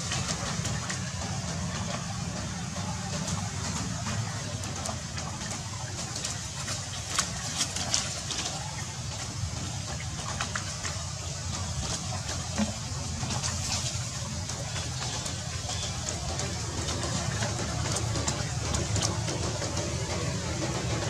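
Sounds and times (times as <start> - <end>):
splashing through a puddle: 0.0 - 21.0
steady low hum: 0.0 - 21.0.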